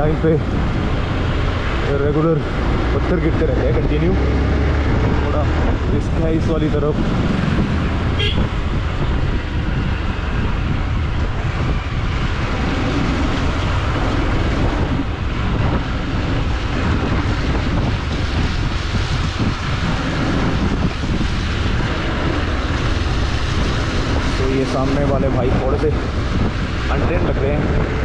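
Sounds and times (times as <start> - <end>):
wind rushing on microphone: 0.0 - 28.0.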